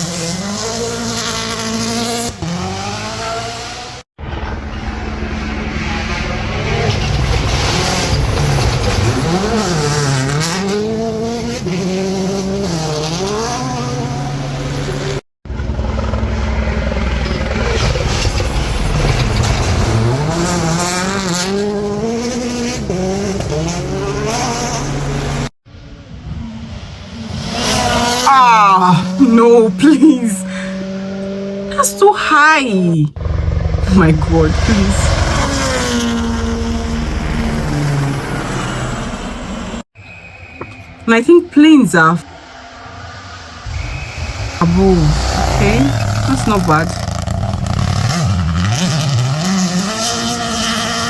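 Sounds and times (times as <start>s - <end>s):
rally car engine at full revs: 0.0s - 31.8s, 33.2s - 39.8s, 42.4s - 51.0s.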